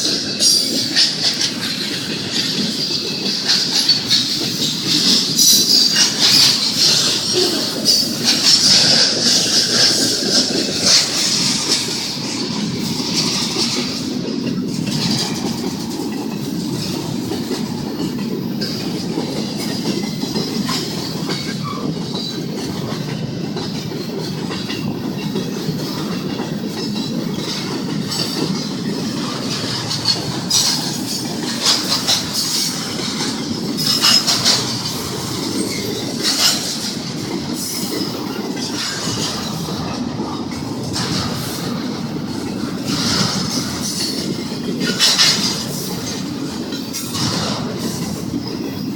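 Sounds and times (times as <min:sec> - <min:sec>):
freight train rumbling past: 0:00.0 - 0:48.9
wheels clattering over rail joints: 0:00.0 - 0:48.9.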